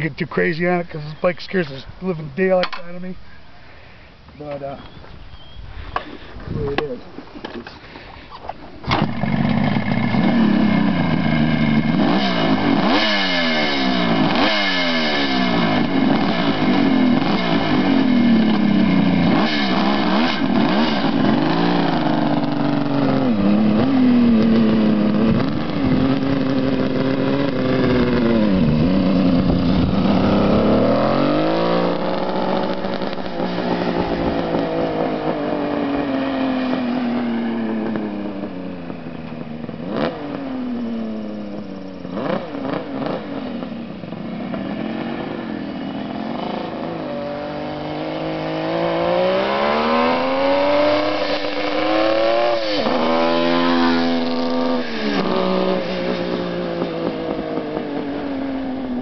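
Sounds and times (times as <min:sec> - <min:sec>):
motorcycle engine starting and revving: 0:08.8 - 0:59.0.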